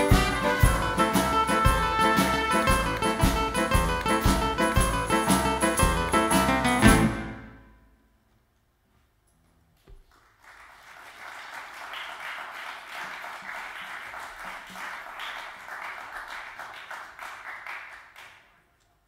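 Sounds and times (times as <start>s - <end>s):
audience applauding: 0.0s - 7.2s, 10.0s - 18.5s.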